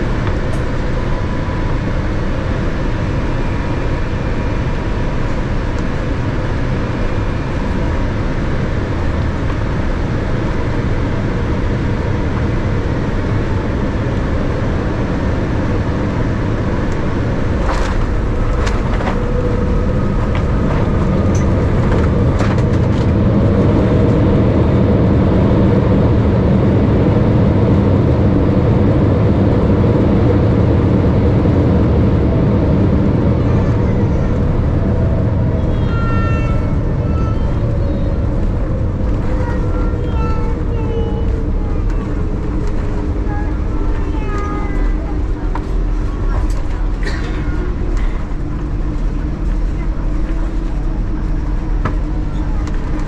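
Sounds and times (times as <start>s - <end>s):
aircraft cabin engine rumble: 0.0s - 53.0s
jet engine rising whine: 0.0s - 53.0s.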